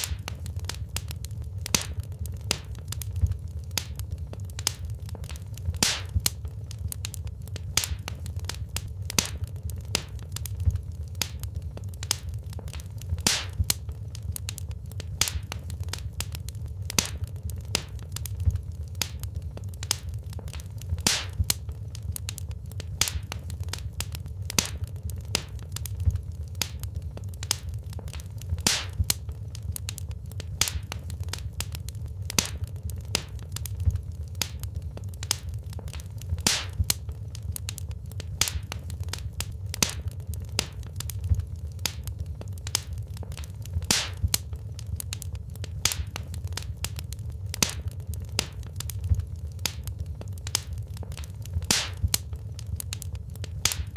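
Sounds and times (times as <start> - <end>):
fire low rumble: 0.0 - 53.9
wood fire crackling and popping: 0.0 - 53.9.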